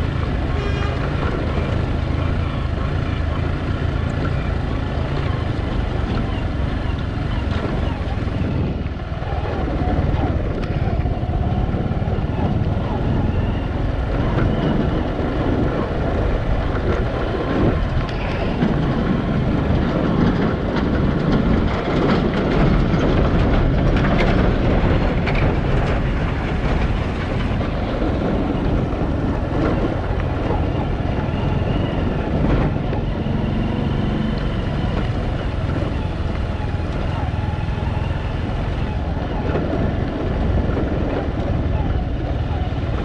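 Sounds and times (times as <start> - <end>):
road vehicle rumble: 0.0 - 43.0.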